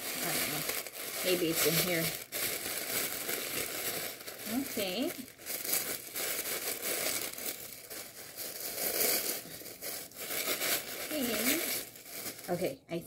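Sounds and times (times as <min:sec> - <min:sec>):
tissue paper crinkling: 0:00.0 - 0:12.8.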